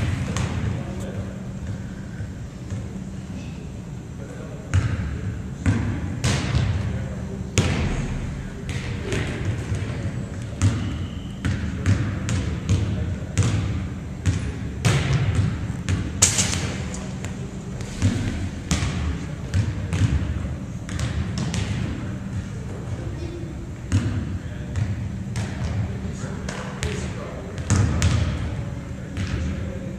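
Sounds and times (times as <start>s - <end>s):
volleyballs bouncing on gym floor: 0.0s - 3.2s, 4.6s - 29.9s.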